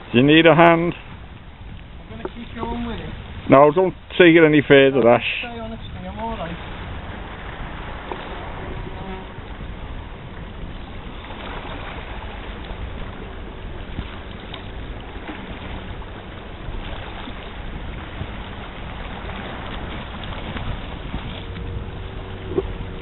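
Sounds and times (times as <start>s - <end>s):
sea washing against rocks: 0.0s - 23.0s
wind buffeting microphone: 0.0s - 23.0s.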